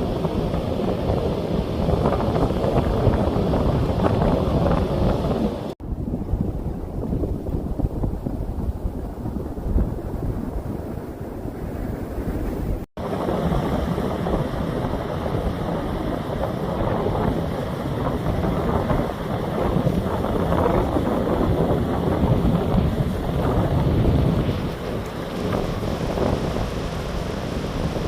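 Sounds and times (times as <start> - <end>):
ocean surf washing in: 0.0 - 28.0
wind buffeting microphone: 0.0 - 28.0.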